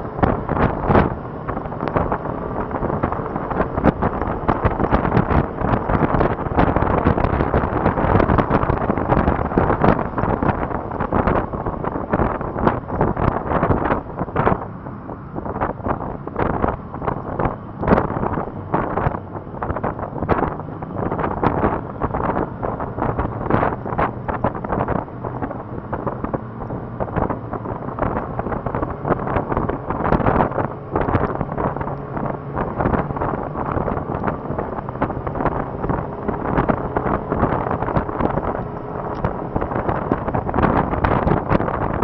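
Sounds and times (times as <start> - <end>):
motorcycle engine drone: 0.0 - 42.0
wind buffeting microphone: 0.0 - 42.0.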